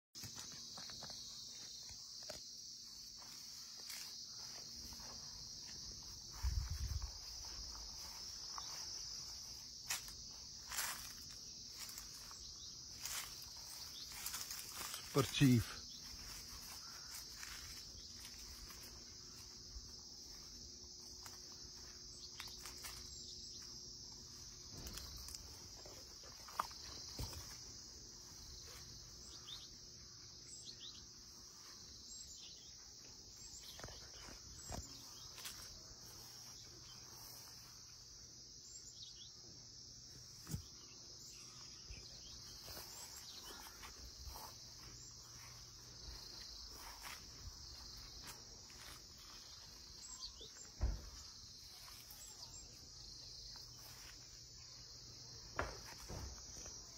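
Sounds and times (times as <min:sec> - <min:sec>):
high insect chorus: 0:00.2 - 0:56.9.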